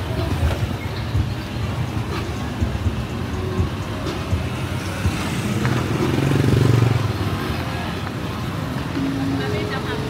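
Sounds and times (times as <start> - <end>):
motor scooters riding past: 0.0 - 10.0
traffic rumble: 0.0 - 10.0.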